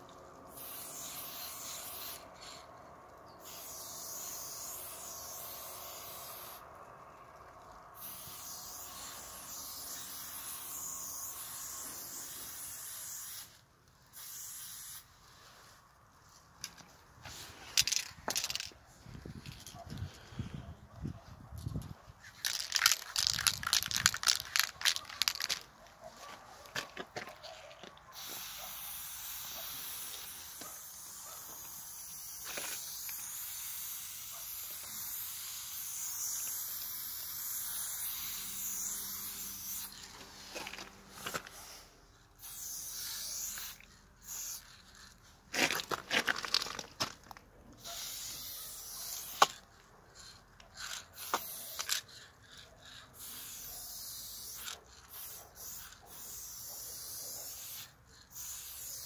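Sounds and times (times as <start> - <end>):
spray paint can hissing: 0.0 - 20.5, 21.6 - 25.8, 26.6 - 59.0.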